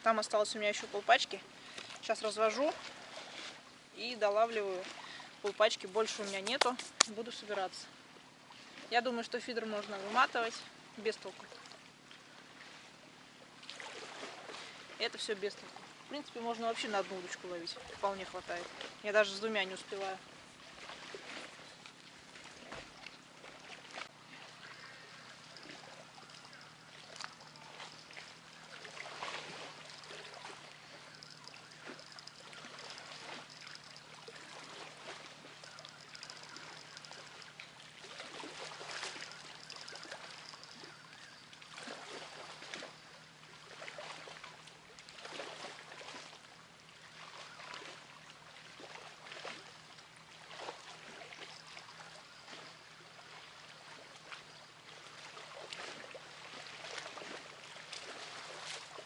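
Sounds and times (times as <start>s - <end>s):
river water trickling: 0.0s - 59.0s
small splashes: 0.0s - 59.0s
faint low hum: 0.1s - 59.0s.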